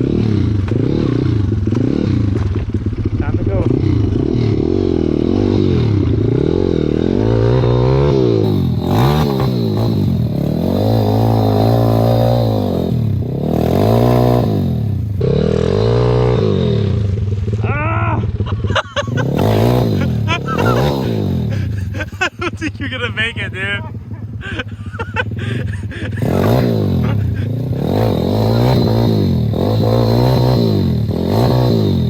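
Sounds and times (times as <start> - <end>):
pit bike engine revving: 0.0 - 32.0.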